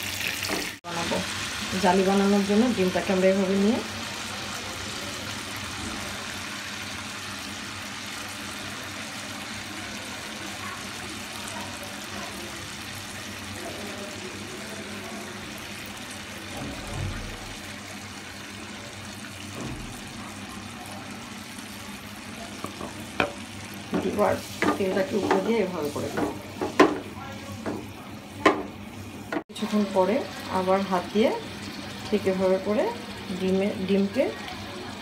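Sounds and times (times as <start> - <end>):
food sizzling in frying oil: 0.0 - 35.0.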